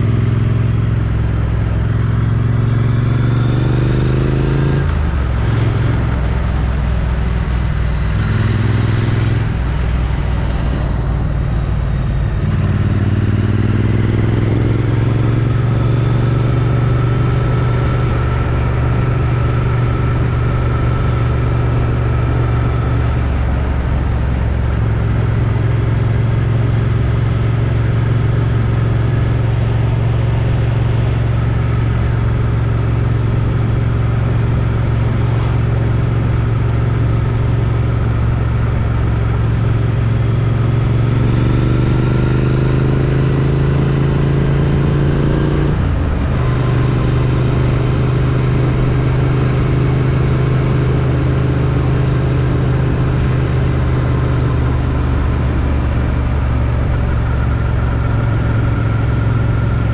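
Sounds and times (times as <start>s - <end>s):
motorcycle engine: 0.0s - 59.9s
road noise: 0.0s - 59.9s.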